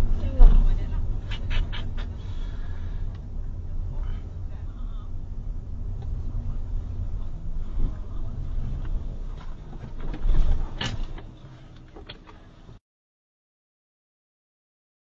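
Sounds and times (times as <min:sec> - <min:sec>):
car rumbling slowly: 0:00.0 - 0:12.8.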